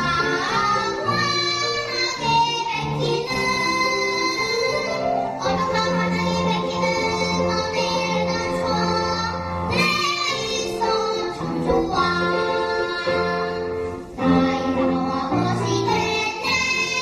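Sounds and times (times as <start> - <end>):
child singing: 0.0 - 17.0
instrumental accompaniment: 0.0 - 17.0.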